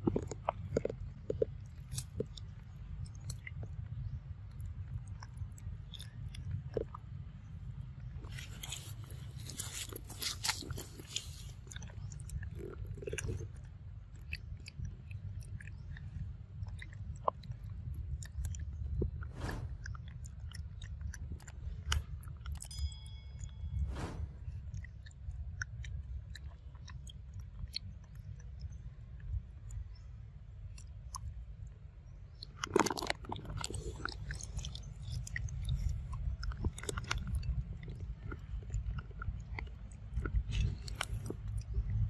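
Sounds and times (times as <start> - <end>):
monkey chewing wetly: 0.0 - 23.5, 24.4 - 29.9, 30.6 - 42.0
steady low rumble: 0.0 - 42.0.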